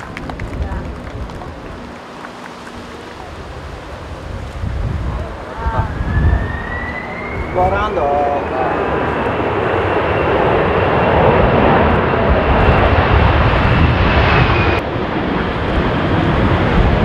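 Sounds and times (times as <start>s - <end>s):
high engine whine: 0.0s - 17.0s
jet engines passing overhead: 0.0s - 17.0s.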